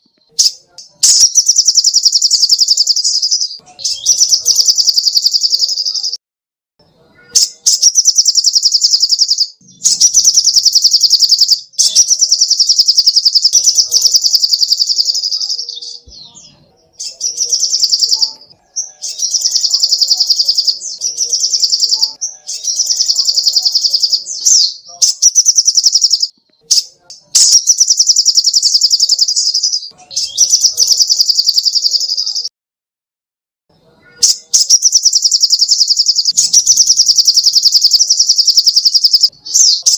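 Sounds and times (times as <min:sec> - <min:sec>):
bird rapid high-pitched chips: 0:00.3 - 0:06.2, 0:07.2 - 0:16.4, 0:17.0 - 0:32.5, 0:34.1 - 0:39.9.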